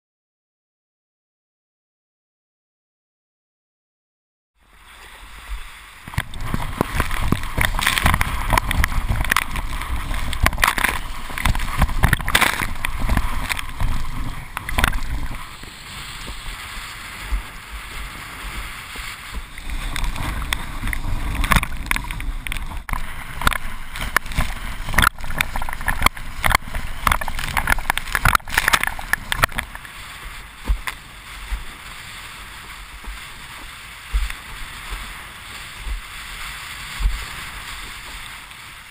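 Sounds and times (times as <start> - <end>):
low wind rumble: 4.6 - 38.9
water splashing against board: 5.5 - 38.6.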